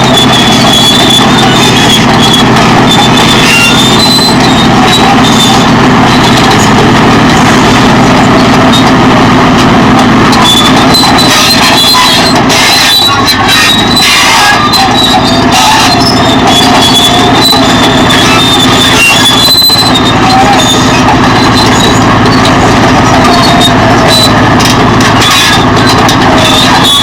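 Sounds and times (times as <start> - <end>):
bulldozer diesel engine under load: 0.0 - 27.0
metallic squeals of steel tracks: 0.0 - 27.0.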